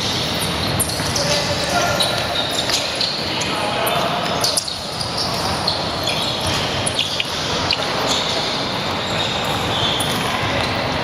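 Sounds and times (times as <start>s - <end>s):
crowd murmur echoing: 0.0s - 11.0s
sneaker squeaks on court: 0.0s - 11.0s.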